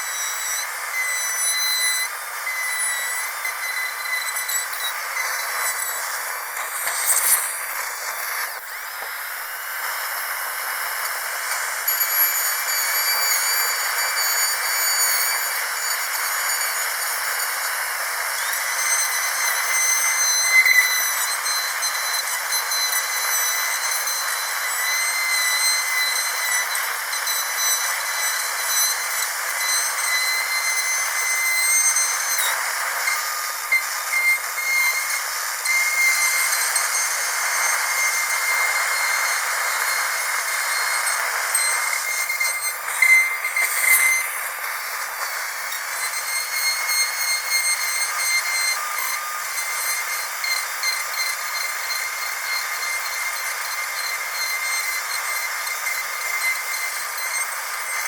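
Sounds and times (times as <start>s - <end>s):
dentist's drill whining: 0.0s - 58.0s.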